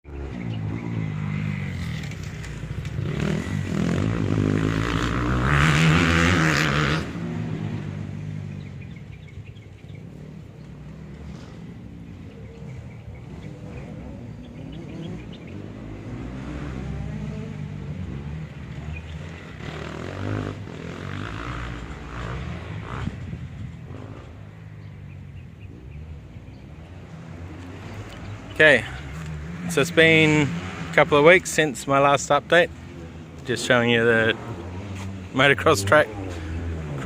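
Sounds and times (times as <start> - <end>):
vehicle engines revving: 0.0 - 37.0.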